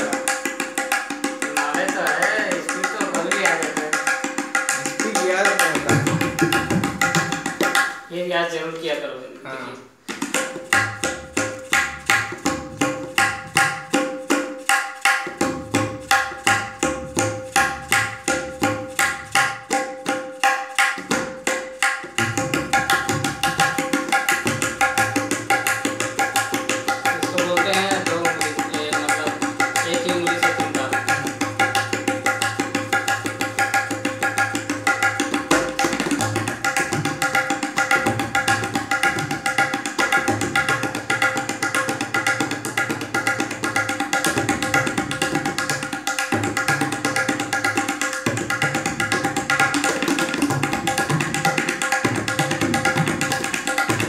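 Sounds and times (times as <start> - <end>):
tabla playing: 0.0 - 9.0, 10.0 - 54.0.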